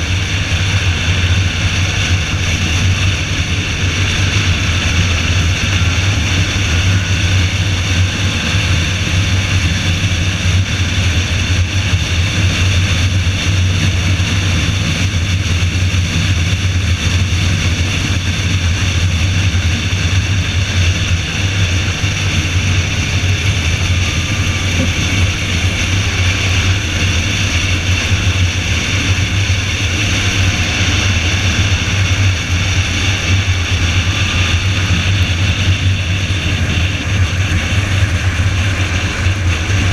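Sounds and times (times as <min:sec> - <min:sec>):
car engine drone: 0:00.0 - 0:39.9
road and wind hiss: 0:00.0 - 0:39.9.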